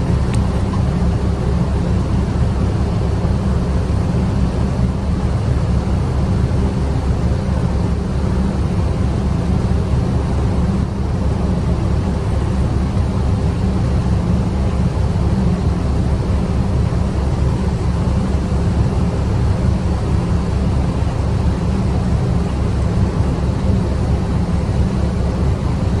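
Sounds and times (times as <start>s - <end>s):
ship engine drone: 0.0s - 26.0s.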